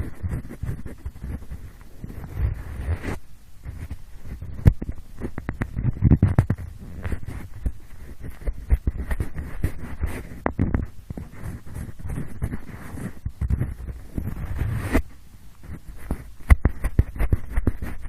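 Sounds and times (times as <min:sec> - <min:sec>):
pencil scraping on microphone: 0:00.0 - 0:18.0.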